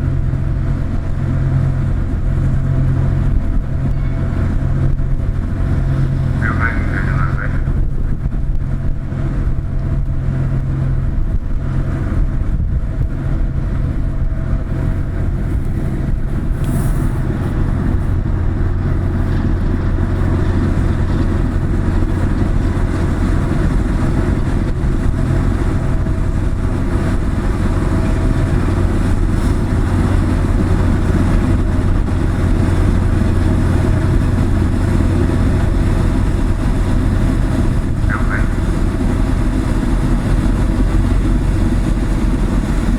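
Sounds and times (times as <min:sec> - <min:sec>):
ship diesel engines droning: 0:00.0 - 0:42.9.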